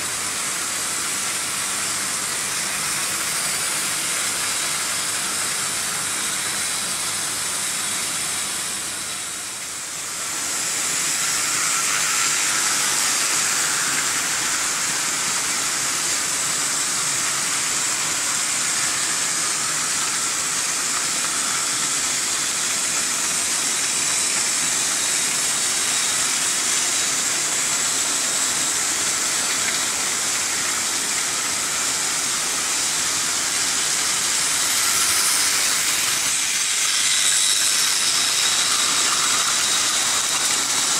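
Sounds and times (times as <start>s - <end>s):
model train wheels rattling: 1.0s - 40.9s.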